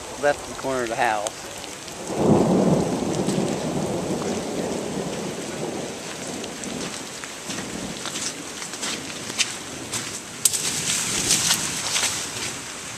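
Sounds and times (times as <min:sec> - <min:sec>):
thunder rumble: 0:00.0 - 0:12.8
steady rain falling: 0:00.0 - 0:12.9.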